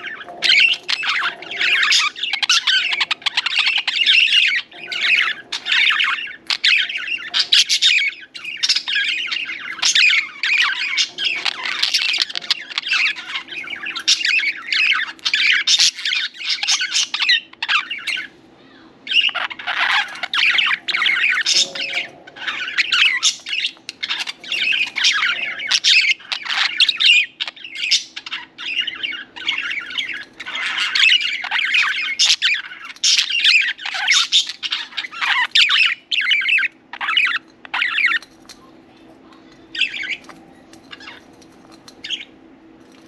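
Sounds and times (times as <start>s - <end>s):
budgerigars chattering: 0.0s - 18.4s, 19.1s - 38.2s, 39.7s - 41.3s, 42.0s - 42.4s.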